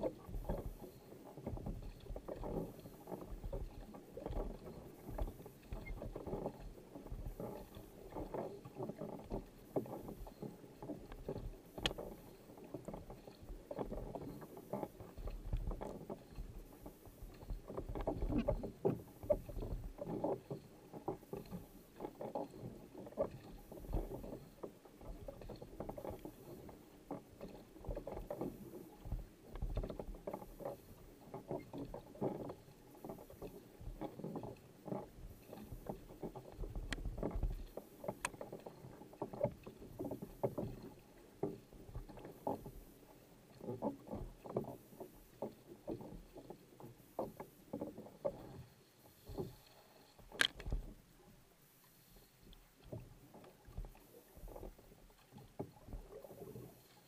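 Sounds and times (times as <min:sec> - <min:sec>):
paddle splashing through water: 0:00.0 - 0:57.0.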